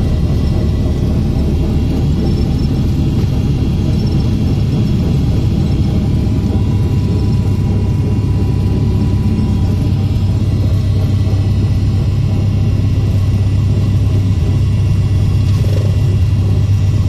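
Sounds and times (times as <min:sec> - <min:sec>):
plane engine and propeller drone: 0:00.0 - 0:17.0.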